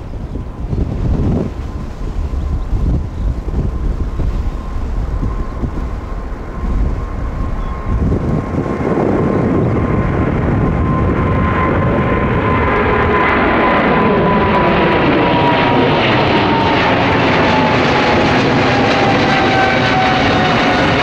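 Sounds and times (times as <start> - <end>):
distant jet engine whine: 0.0 - 21.0
wind on microphone: 0.0 - 21.0.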